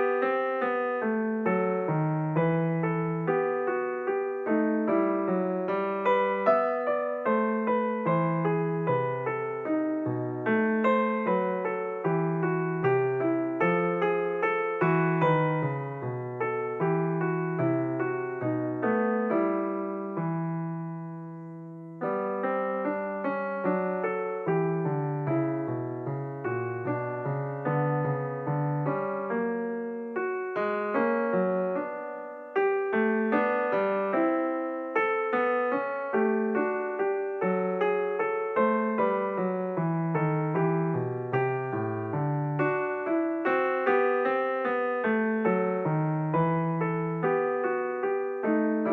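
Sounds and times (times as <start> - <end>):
piano music: 0.0 - 48.9.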